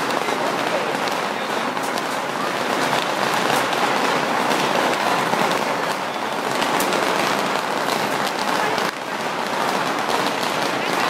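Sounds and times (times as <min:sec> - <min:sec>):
firecrackers crackling: 0:00.0 - 0:11.0
loud firecracker cracks: 0:00.0 - 0:11.0.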